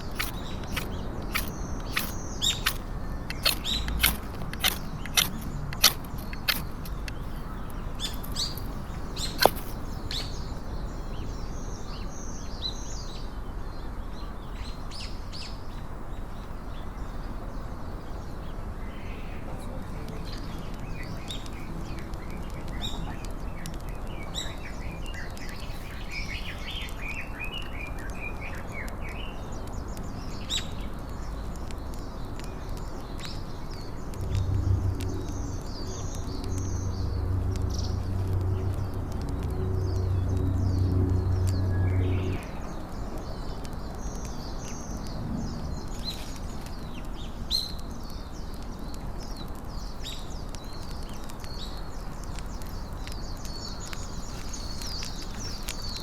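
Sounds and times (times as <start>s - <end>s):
sharp snaps: 0.0s - 10.7s, 18.8s - 56.0s
low background noise: 0.0s - 56.0s
small birds chirping: 0.0s - 56.0s.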